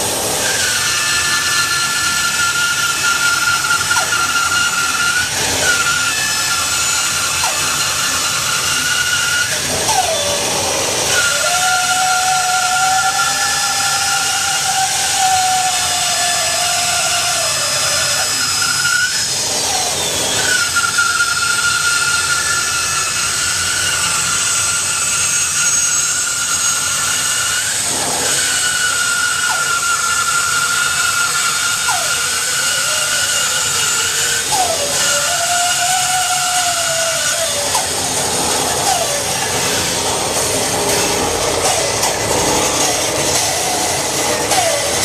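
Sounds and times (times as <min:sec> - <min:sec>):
bandsaw cutting wood: 0:00.0 - 0:45.0.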